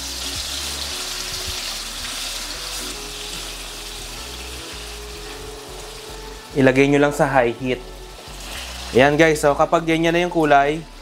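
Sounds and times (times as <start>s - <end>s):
faint background music: 0.0s - 11.0s
meat sizzling in oil: 0.0s - 11.0s.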